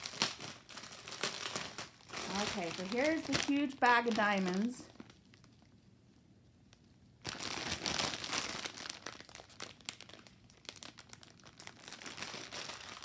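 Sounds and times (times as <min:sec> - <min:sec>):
plastic bag crinkling: 0:00.0 - 0:05.8, 0:07.2 - 0:13.0.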